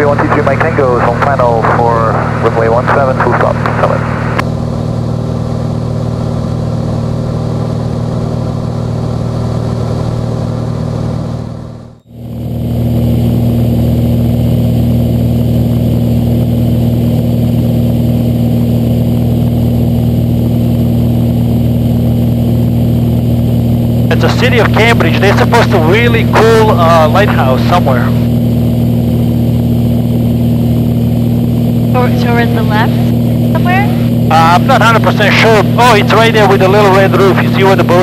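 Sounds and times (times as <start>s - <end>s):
propeller plane engine drone: 0.0s - 38.0s.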